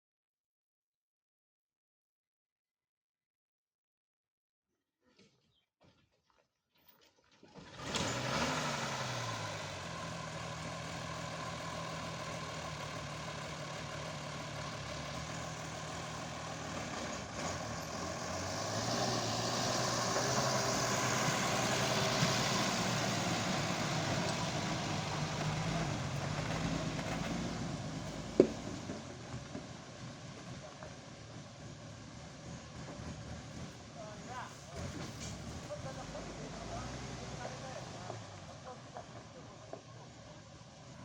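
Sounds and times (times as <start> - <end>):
truck engine running: 7.8 - 41.0.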